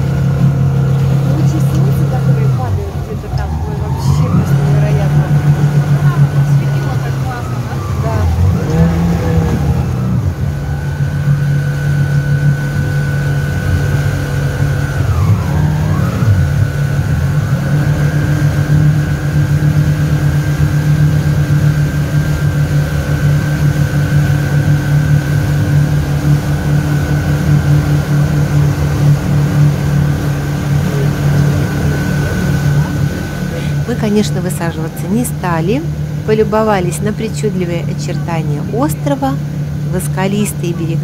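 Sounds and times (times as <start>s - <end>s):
motorboat engine droning: 0.0s - 41.0s.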